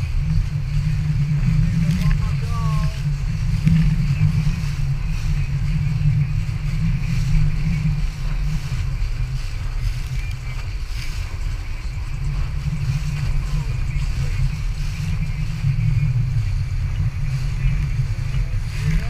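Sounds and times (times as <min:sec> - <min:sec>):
outboard motor rumble: 0:00.0 - 0:19.0
wind on microphone: 0:00.0 - 0:19.0.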